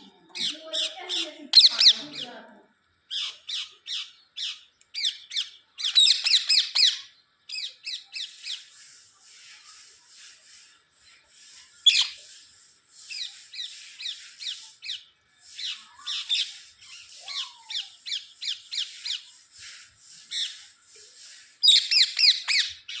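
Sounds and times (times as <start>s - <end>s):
parrot chirping and trilling: 0.4s - 2.4s, 3.1s - 9.9s, 11.0s - 23.0s.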